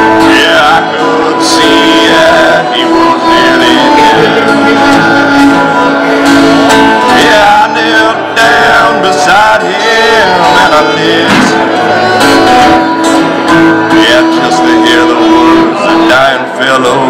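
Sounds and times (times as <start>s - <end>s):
acoustic guitar accompaniment: 0.0s - 17.0s
fiddle melody: 0.0s - 17.0s.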